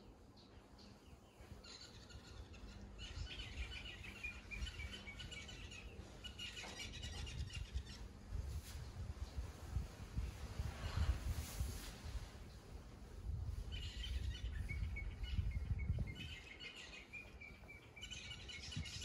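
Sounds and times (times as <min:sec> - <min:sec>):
birds chirping and twittering: 0:00.0 - 0:11.3, 0:12.4 - 0:19.0.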